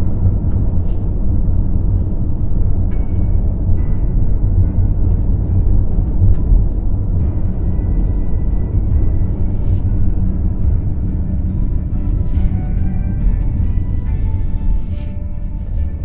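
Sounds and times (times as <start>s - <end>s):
car engine and tyres rumble: 0.0s - 16.0s.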